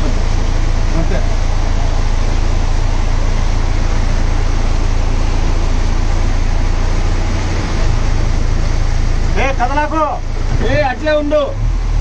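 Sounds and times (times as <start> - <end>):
diesel engine running: 0.0 - 12.0
rushing floodwater: 0.0 - 12.0.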